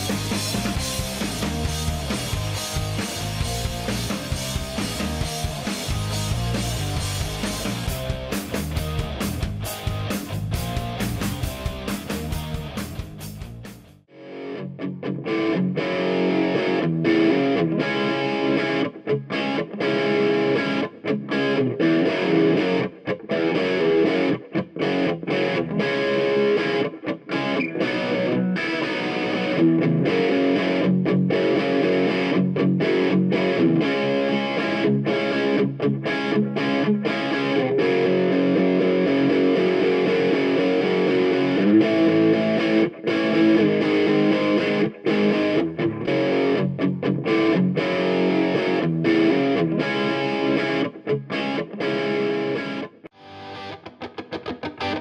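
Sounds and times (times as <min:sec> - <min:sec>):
distorted electric guitar music: 0:00.0 - 0:55.0.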